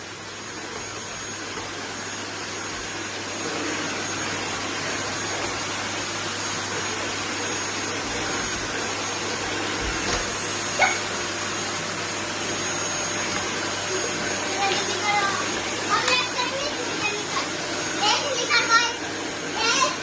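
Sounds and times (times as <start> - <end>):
vacuum cleaner whining: 0.0 - 20.0.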